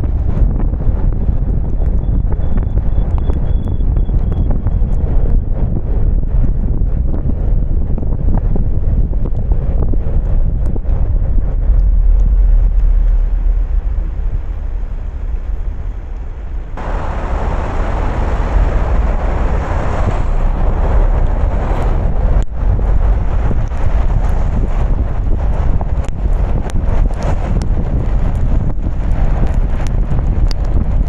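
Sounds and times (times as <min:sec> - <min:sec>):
road noise: 0:00.0 - 0:31.0
wind buffeting microphone: 0:00.0 - 0:31.0.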